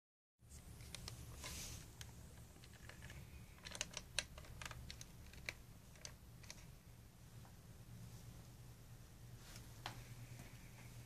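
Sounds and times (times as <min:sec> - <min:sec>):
steady low hum: 0:00.4 - 0:11.0.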